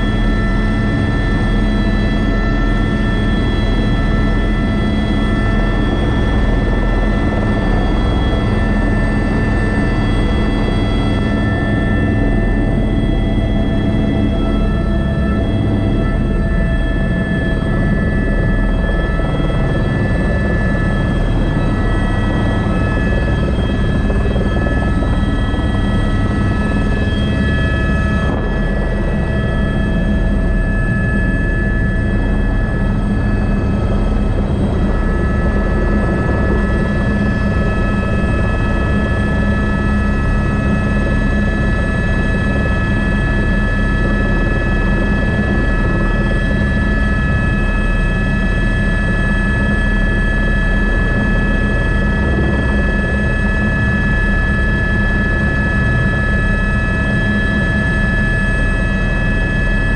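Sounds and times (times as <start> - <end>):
helicopter rotor drone: 0.0 - 59.9
helicopter turbine whine: 0.0 - 59.9.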